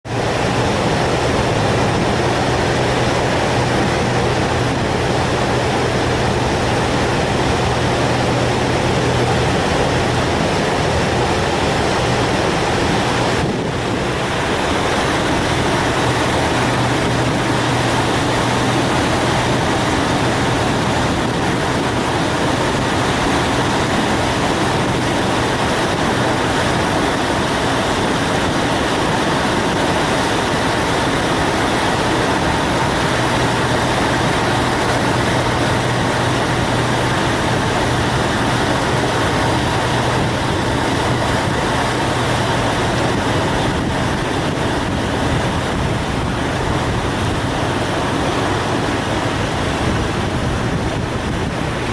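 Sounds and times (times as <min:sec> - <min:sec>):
loud rushing noise: 0:00.0 - 0:51.9
ferry engines humming: 0:00.1 - 0:51.9.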